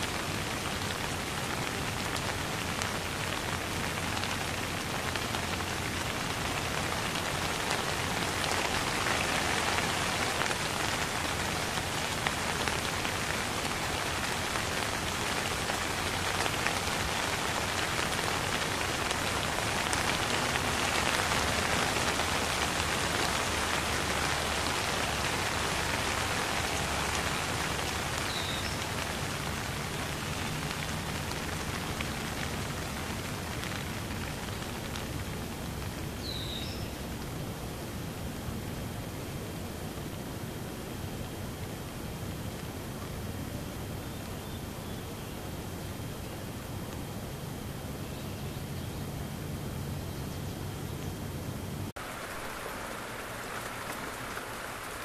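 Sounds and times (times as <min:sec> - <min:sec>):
rain on street and foliage: 0:00.0 - 0:55.0.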